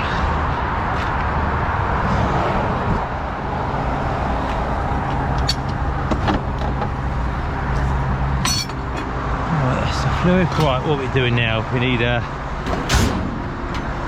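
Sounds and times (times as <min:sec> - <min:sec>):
motorway traffic noise: 0:00.0 - 0:14.0.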